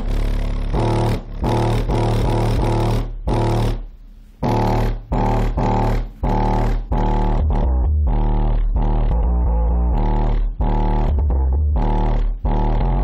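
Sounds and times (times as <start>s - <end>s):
bass-heavy music through subwoofer: 0.0s - 13.0s.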